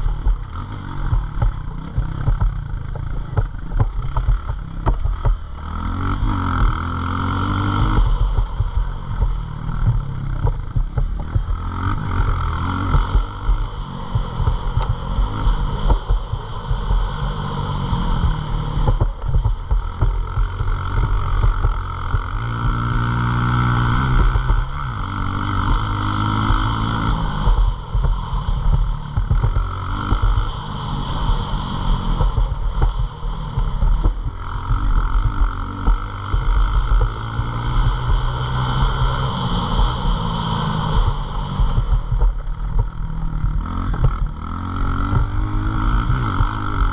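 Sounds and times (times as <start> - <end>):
pit bike engine revving: 0.0 - 46.9.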